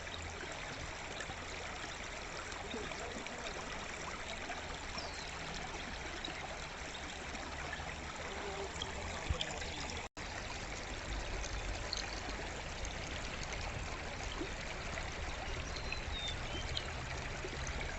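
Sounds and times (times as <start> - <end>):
stream flowing: 0.0 - 17.9.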